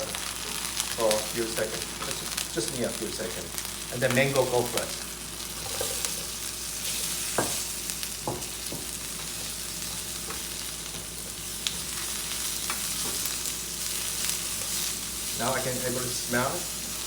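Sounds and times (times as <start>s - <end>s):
garlic and pepper sizzling: 0.0s - 17.0s.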